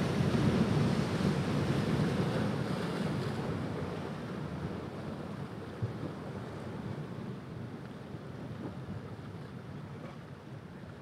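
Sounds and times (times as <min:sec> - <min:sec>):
ocean surf washing up beach: 0:00.0 - 0:10.7.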